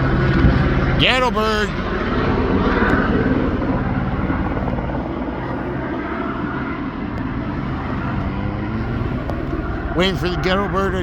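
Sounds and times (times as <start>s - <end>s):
helicopter engine hum: 0.0s - 11.0s
helicopter rotor beating: 0.0s - 11.0s.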